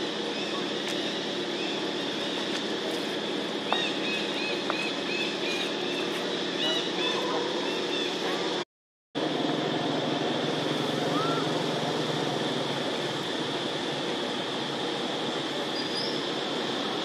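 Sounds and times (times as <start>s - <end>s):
high-pitched drone: 0.0s - 8.6s, 9.2s - 17.0s
outdoor background noise: 0.0s - 17.0s.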